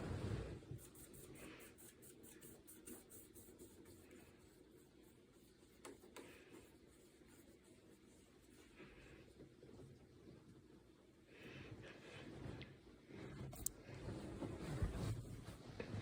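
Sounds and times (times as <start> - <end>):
ceiling fan hum: 0.0 - 16.0.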